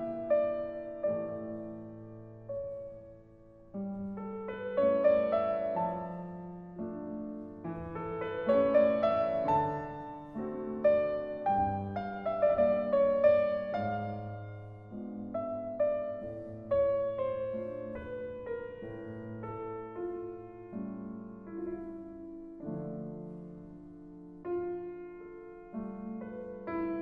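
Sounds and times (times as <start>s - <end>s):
slow solo piano: 0.0s - 27.0s.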